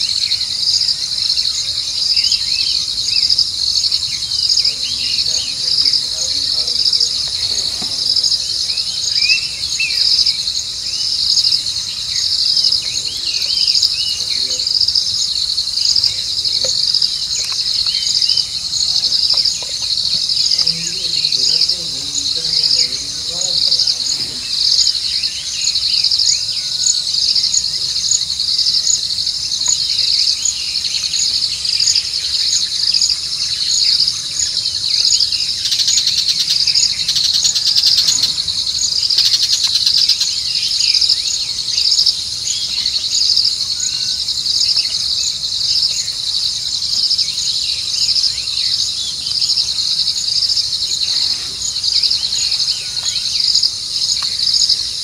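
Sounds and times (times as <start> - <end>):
night insects chirping: 0.0 - 55.0.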